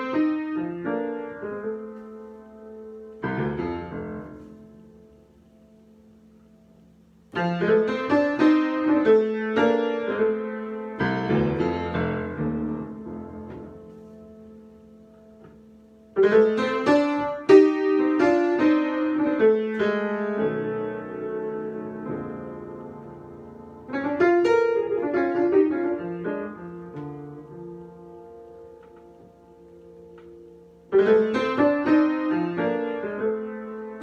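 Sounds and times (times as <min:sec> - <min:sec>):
solo piano: 0:00.0 - 0:34.0.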